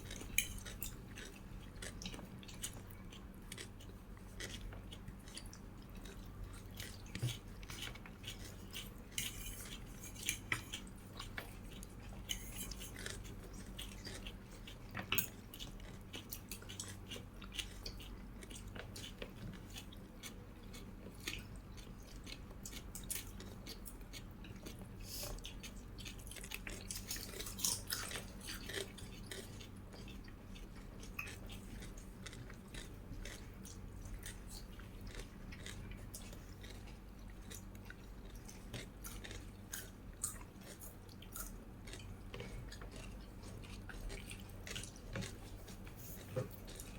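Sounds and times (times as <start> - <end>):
faint low hum: 0.0 - 46.9
person chewing crunchy food: 0.0 - 46.9.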